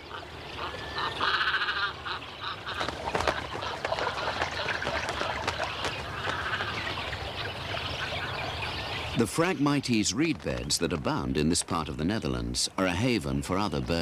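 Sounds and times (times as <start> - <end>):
cormorants calling: 0.0 - 14.0.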